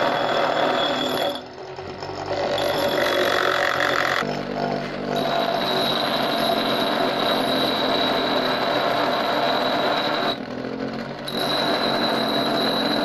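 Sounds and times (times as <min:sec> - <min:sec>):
bench grinder grinding metal: 0:00.0 - 0:13.0
grinder motor spinning: 0:00.0 - 0:13.0.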